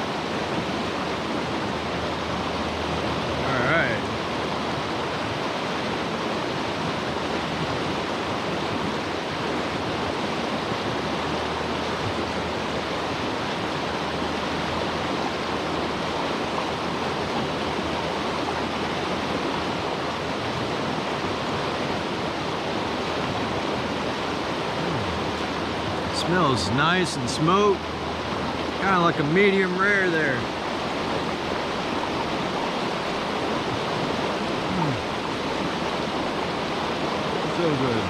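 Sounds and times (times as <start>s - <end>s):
steady outdoor rushing noise: 0.0s - 38.0s.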